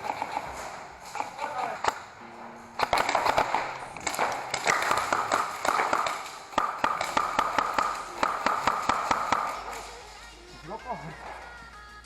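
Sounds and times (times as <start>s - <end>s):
airsoft guns firing: 0.0s - 10.5s.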